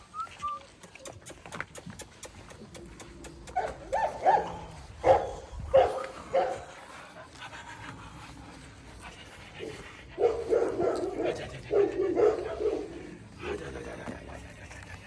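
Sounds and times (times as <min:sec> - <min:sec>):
puppies yipping and barking: 0:00.0 - 0:15.0.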